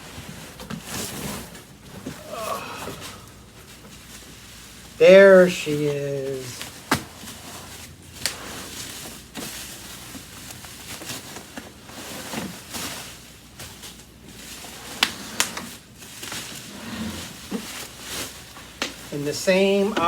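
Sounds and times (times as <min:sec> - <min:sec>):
low rustling and scraping: 0:00.0 - 0:20.0.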